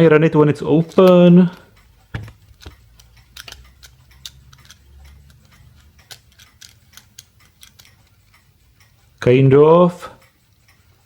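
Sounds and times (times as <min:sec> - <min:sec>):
clock movement ticking and clicking: 0:00.0 - 0:11.0.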